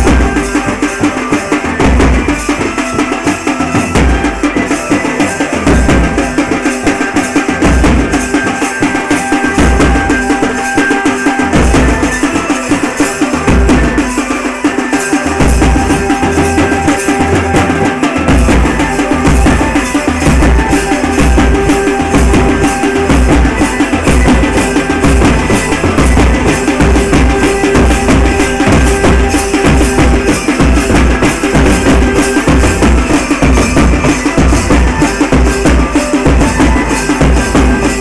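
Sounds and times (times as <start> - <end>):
bass drum and side drums beating: 0.0 - 38.0.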